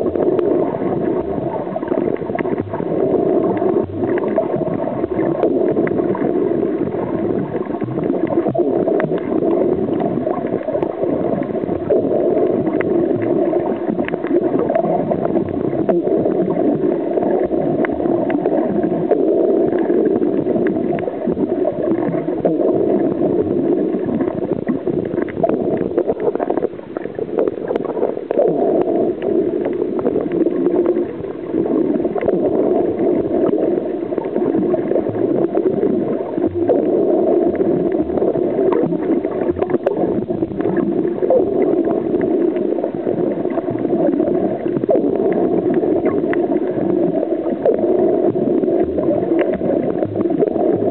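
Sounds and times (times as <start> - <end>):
faint crackling clicks: 0.0 - 50.9
muffled underwater rumbling hiss: 0.0 - 50.9.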